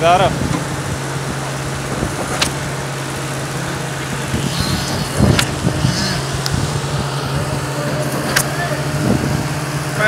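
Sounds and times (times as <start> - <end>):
hoist machinery humming: 0.4 - 10.0.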